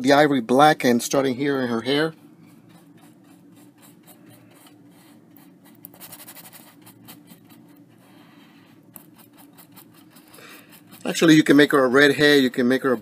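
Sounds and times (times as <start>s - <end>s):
paintbrush scratching on canvas: 1.6s - 13.0s.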